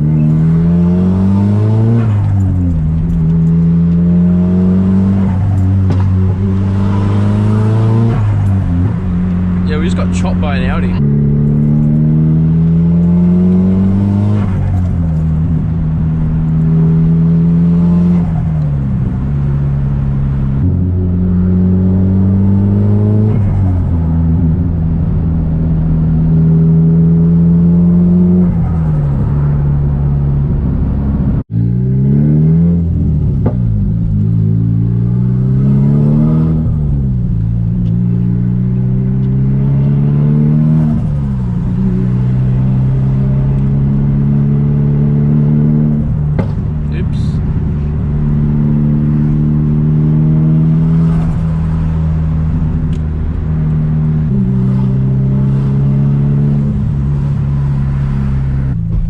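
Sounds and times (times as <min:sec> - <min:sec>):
car engine accelerating and shifting: 0:00.0 - 0:59.0.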